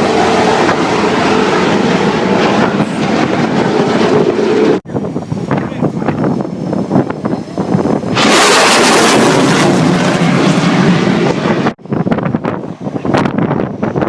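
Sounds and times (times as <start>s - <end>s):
loud rushing roar: 0.0s - 14.0s
wind buffeting microphone: 0.0s - 14.0s.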